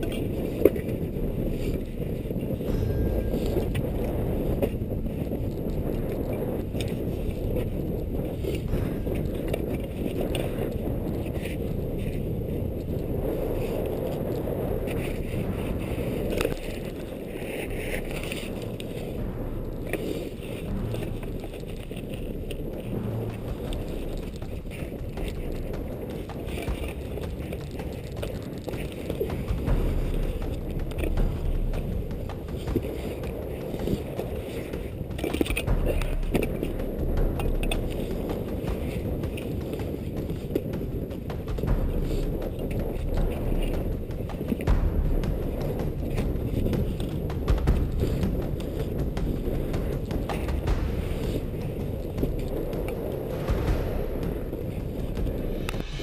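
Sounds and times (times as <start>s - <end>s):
scrapes and knocks on rock: 0.0s - 56.0s
wind buffeting microphone: 0.0s - 56.0s.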